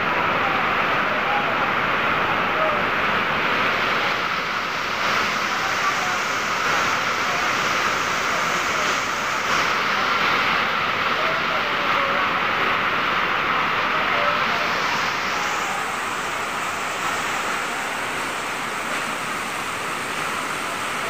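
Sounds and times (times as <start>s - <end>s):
heavy rain on pavement: 0.0s - 21.0s
water streaming off roof edge: 0.0s - 21.0s.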